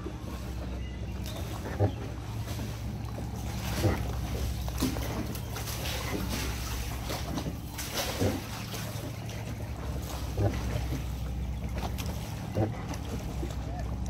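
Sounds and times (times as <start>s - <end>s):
oar knocking and splashing: 0.0s - 14.0s.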